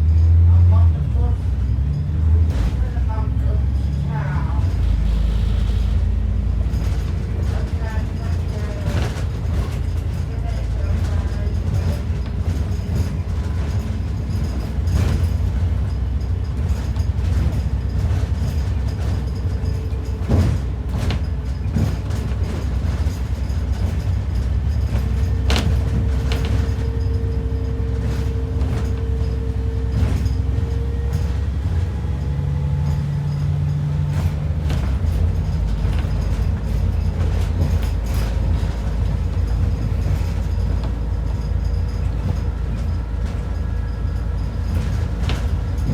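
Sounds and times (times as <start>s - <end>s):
bus engine and road rumble: 0.0s - 45.9s
rattles and knocks from bus body: 0.0s - 45.9s.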